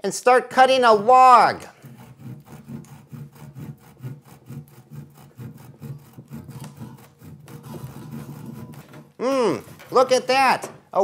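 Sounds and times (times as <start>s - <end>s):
hand saw cutting wood: 1.3s - 11.0s.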